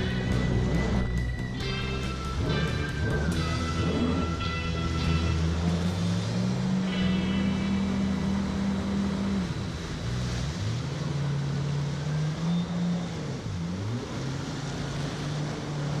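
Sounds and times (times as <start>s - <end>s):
jet ski engine: 0.0s - 16.0s
water rushing past hull: 0.0s - 16.0s.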